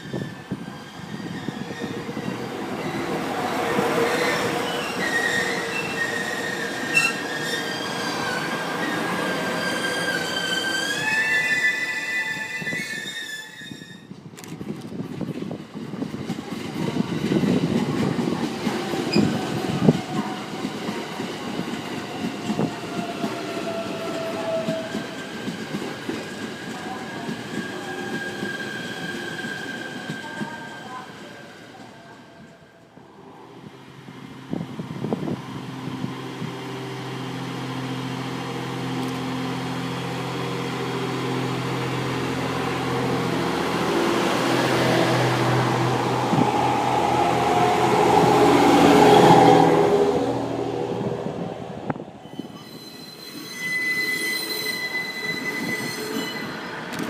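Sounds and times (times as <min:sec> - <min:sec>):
electric train at platform: 0:00.0 - 0:57.0.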